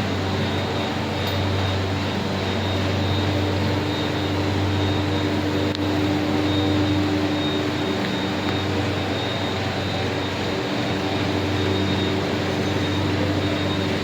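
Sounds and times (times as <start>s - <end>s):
faint high whine: 0.0s - 14.0s
machine fans and drives droning: 0.0s - 14.0s.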